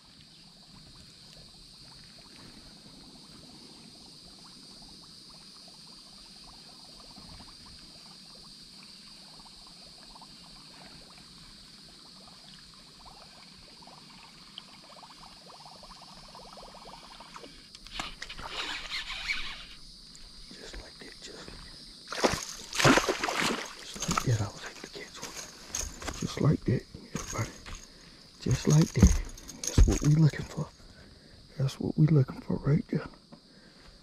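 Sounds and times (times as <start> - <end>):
water trickling and splashing: 0.0 - 19.0, 20.1 - 31.3
high-pitched insect drone: 0.0 - 34.0.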